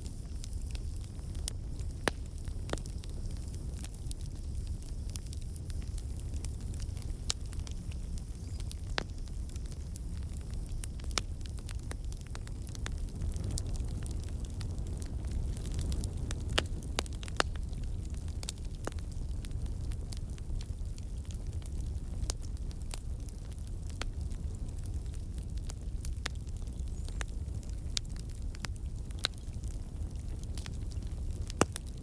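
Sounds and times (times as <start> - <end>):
campfire flames rumbling: 0.0 - 32.0
logs crackling and popping: 0.0 - 32.0.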